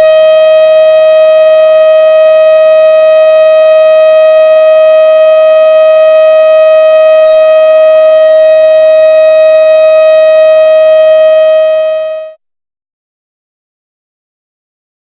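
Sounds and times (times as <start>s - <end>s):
warning siren steady tone: 0.0s - 12.4s.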